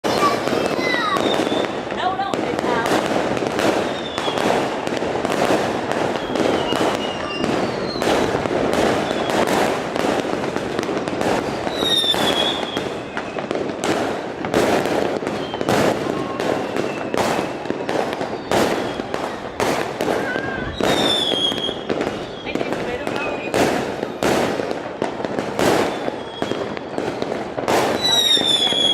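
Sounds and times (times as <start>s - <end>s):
fireworks bangs and crackling: 0.0s - 28.9s
fireworks whistles falling in pitch: 0.0s - 28.9s.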